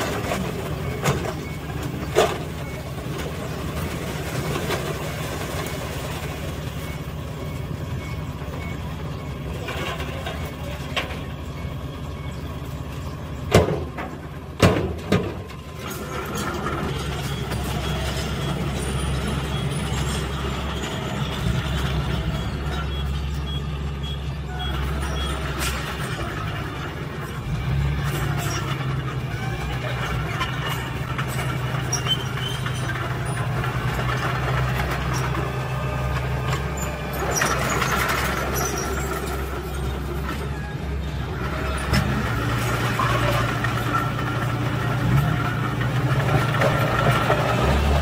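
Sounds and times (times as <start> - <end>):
diesel truck engines running: 0.0 - 48.0.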